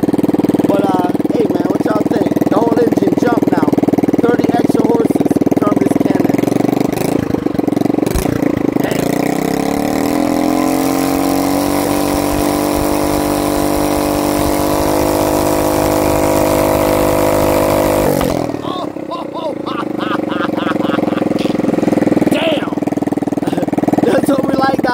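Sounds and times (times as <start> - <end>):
small engine running: 0.0 - 24.9.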